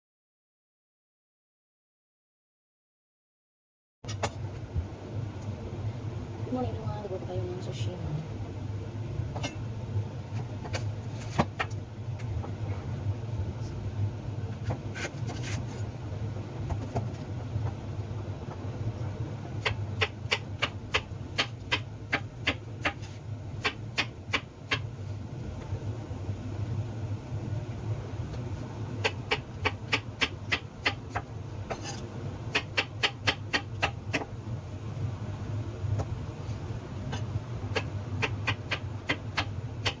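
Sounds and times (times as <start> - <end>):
steady low hum: 4.0 - 40.0.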